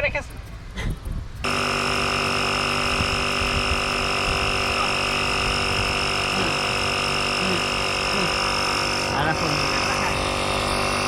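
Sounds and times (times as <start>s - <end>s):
air compressor humming: 0.0s - 11.0s.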